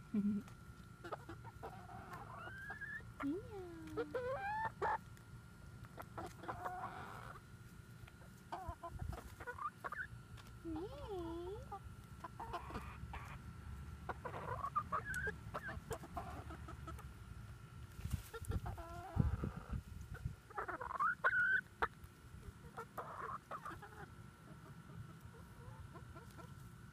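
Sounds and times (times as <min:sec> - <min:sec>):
hens clucking: 0:00.4 - 0:17.3, 0:18.0 - 0:26.9.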